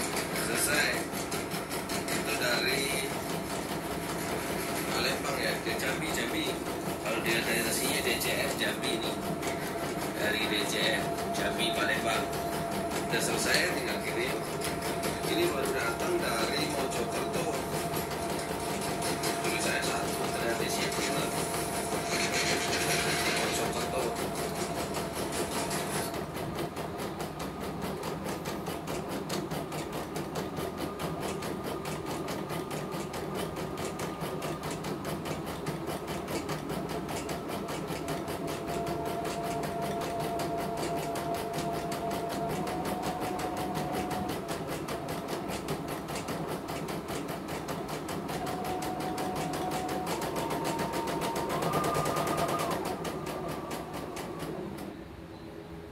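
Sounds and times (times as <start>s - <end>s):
embroidery machine needle clatter: 0.0s - 54.9s.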